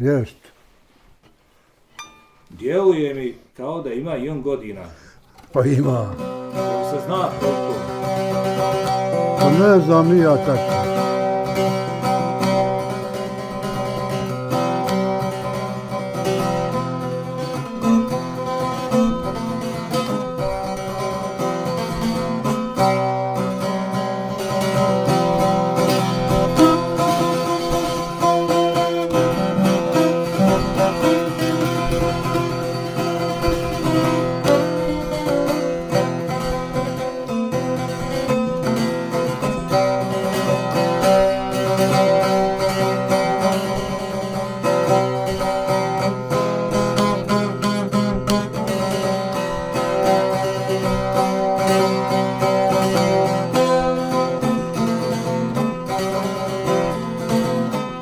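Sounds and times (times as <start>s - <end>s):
long-necked lute strumming: 1.9s - 3.3s, 5.4s - 58.0s.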